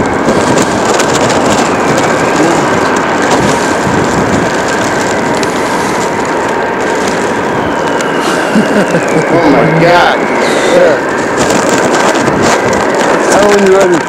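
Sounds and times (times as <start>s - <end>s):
blizzard wind roaring: 0.0s - 14.0s.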